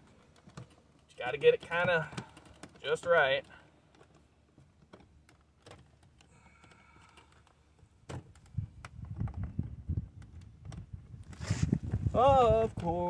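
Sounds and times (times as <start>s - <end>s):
knocks and handling thumps: 0.0s - 12.1s.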